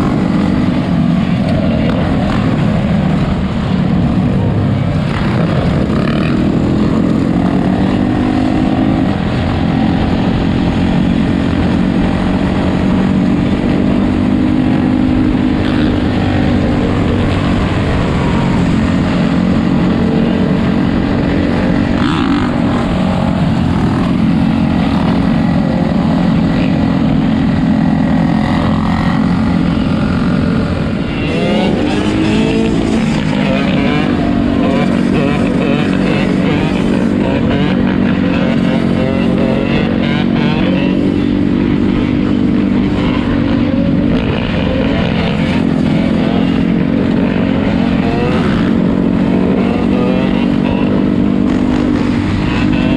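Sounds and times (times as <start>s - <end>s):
atv and dirt bike engines droning: 0.0s - 52.9s.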